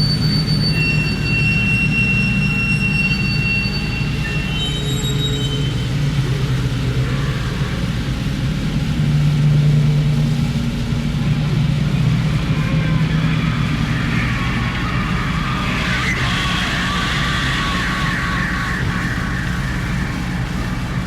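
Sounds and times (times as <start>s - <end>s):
harsh noise music: 0.0s - 21.0s.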